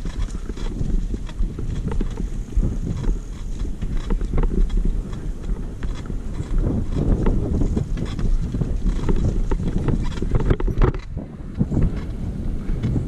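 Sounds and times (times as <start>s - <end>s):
bike rattling: 0.0s - 13.0s
bike tyres rumbling on dirt: 0.0s - 13.0s
wind on microphone: 0.0s - 13.0s.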